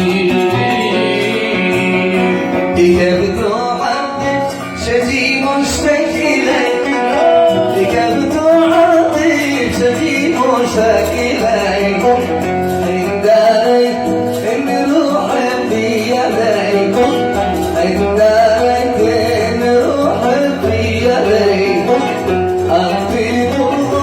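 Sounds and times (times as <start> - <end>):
man singing: 0.0 - 24.0
oud plucked melody: 0.0 - 24.0.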